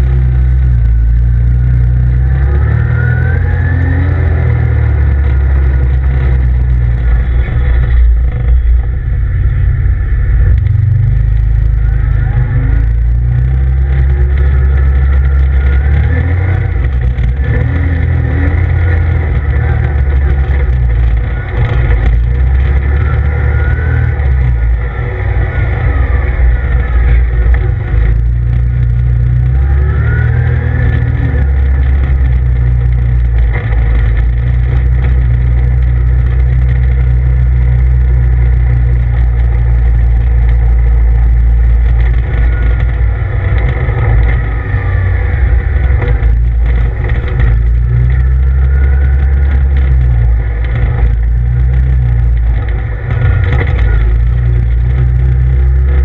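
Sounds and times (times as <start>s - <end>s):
engine whine rising and falling: 0.0s - 56.0s
low rumble: 0.0s - 56.0s.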